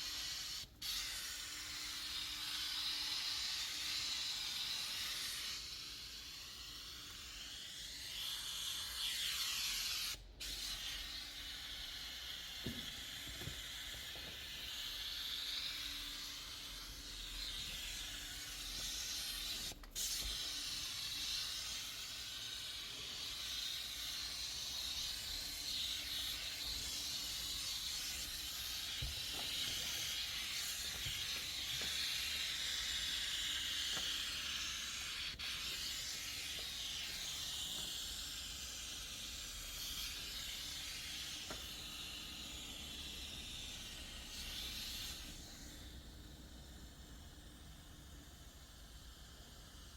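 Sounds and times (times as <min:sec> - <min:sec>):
cleaning jet hissing: 0:00.0 - 0:49.9.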